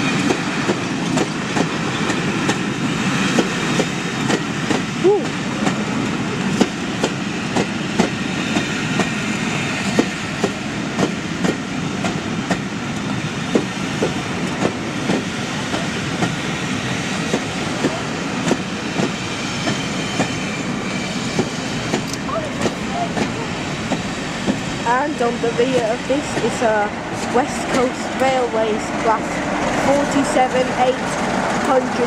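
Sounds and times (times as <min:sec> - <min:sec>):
railway coaches rumbling past: 0:00.0 - 0:32.0
train wheels clicking over rail joints: 0:00.0 - 0:32.0.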